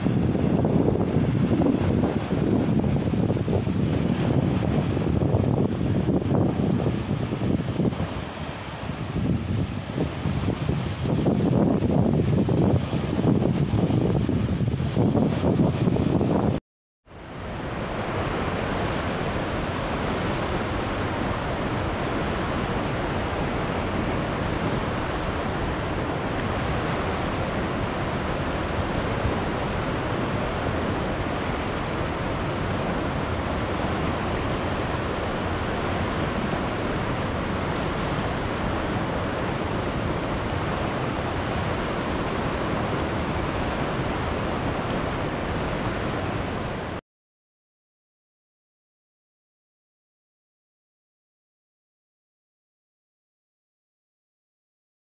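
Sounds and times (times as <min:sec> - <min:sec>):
fast-flowing river water: 0:00.0 - 0:47.0.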